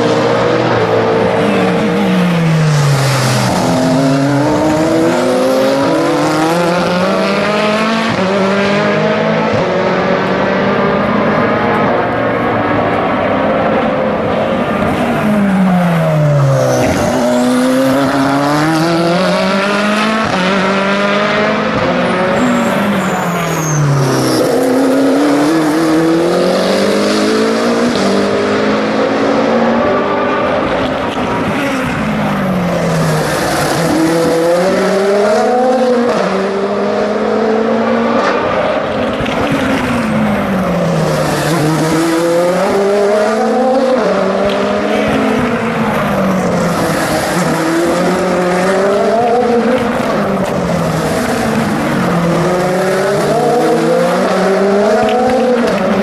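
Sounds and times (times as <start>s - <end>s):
race cars accelerating away: 0.0s - 56.0s
race cars braking and downshifting: 0.0s - 56.0s.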